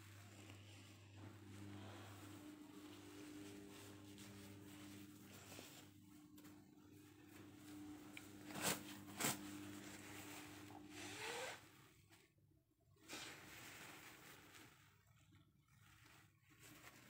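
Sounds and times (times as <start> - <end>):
rustling and handling noise: 0.0 - 17.0.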